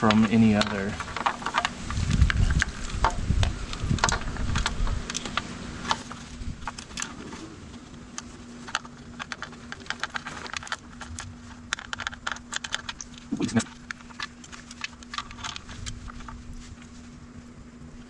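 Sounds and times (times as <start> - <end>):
wires clicking and rustling: 0.0 - 17.2
steady low hum: 0.0 - 18.0.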